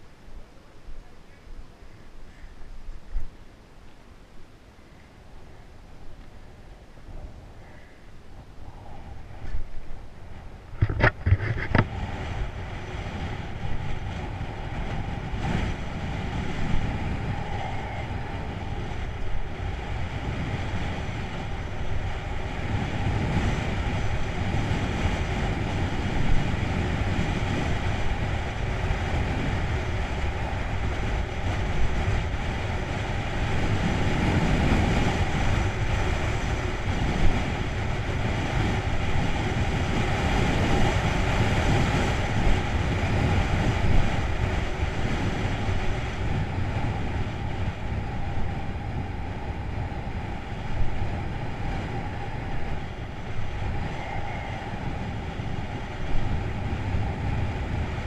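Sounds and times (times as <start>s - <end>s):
road and tyre rumble: 0.0s - 58.0s
wind rush over microphone: 4.4s - 58.0s.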